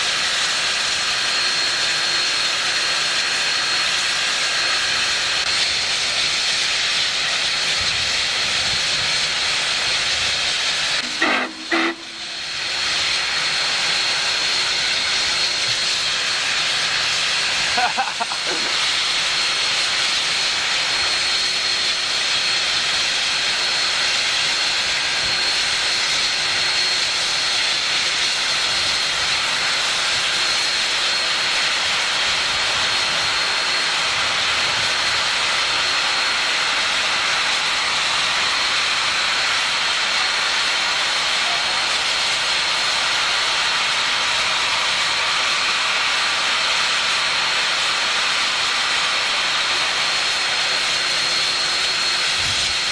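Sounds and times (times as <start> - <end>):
steam locomotive venting steam: 0.0 - 52.9.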